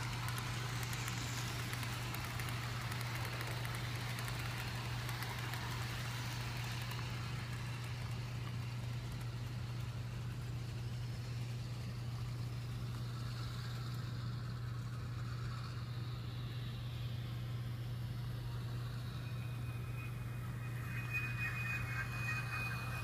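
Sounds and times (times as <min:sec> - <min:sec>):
model train hum: 0:00.0 - 0:23.0
rumble of wheels and motor: 0:00.0 - 0:23.0.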